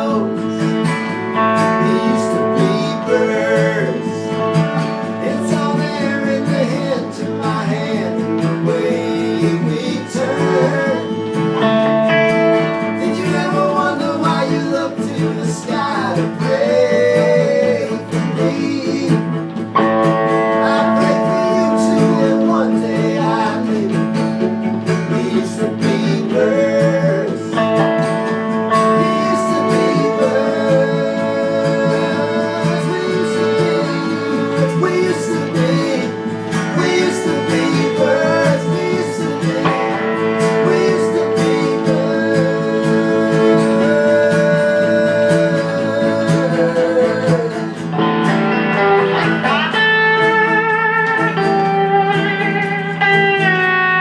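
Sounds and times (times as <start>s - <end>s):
acoustic guitar accompaniment: 0.0s - 54.0s
sliding lead melody: 0.0s - 54.0s.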